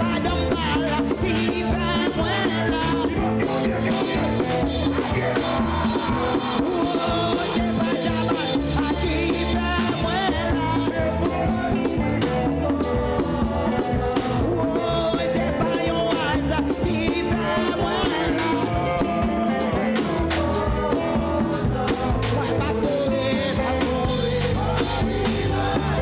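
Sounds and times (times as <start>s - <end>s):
drum kit beat: 0.0s - 26.0s
upbeat live band dance music: 0.0s - 26.0s.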